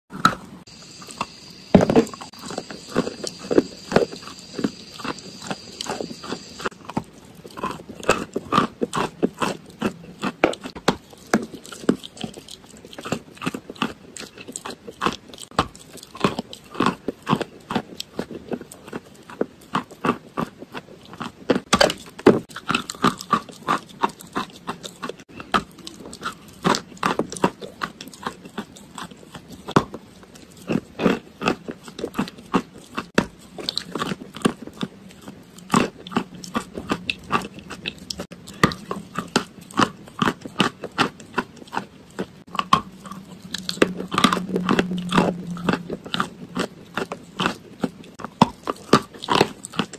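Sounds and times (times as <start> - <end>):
chewing crunchy chalk: 0.1 - 49.9.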